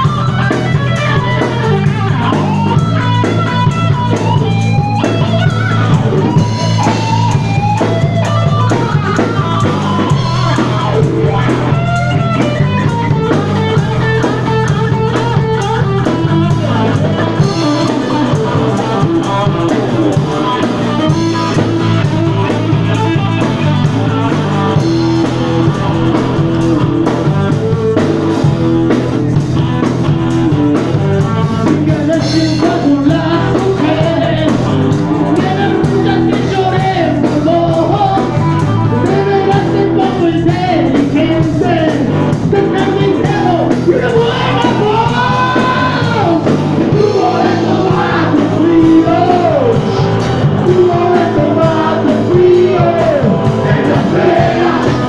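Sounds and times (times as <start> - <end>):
blues-rock band playing: 0.0 - 55.0
drum kit: 0.0 - 55.0
electric guitar riffs: 0.0 - 55.0.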